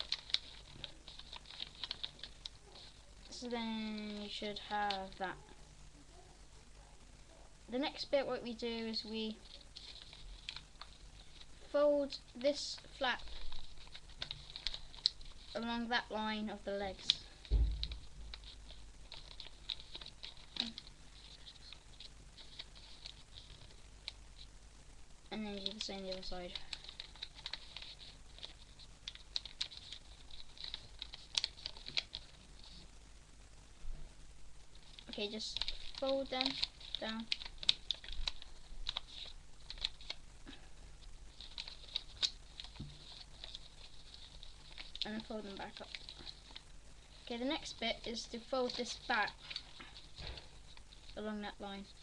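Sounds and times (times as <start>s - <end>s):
paper folding and rustling: 0.0s - 5.3s, 9.2s - 24.5s, 25.4s - 32.9s, 34.7s - 52.0s.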